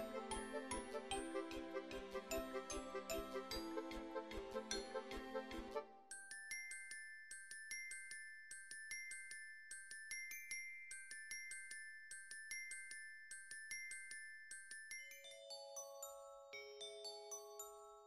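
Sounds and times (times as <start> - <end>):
bell-like melody: 0.0 - 18.0.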